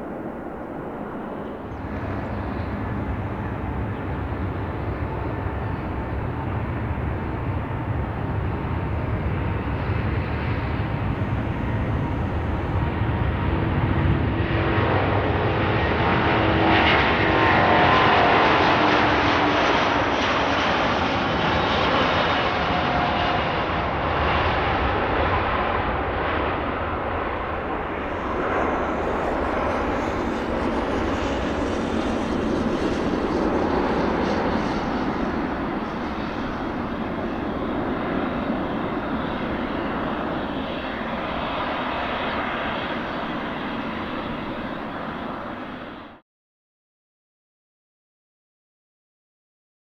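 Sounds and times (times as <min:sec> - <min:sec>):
aircraft engine passing by: 0:00.0 - 0:46.2.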